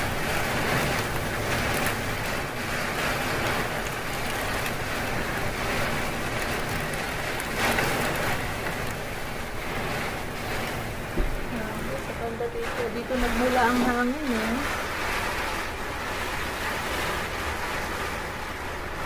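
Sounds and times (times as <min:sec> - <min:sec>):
gusting wind: 0:00.0 - 0:19.0
heavy rain: 0:00.0 - 0:19.0.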